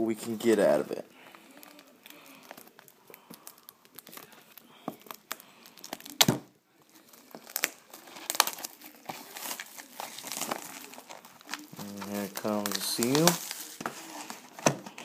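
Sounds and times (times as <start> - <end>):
plastic shrink wrap crinkling: 0.0 - 15.0.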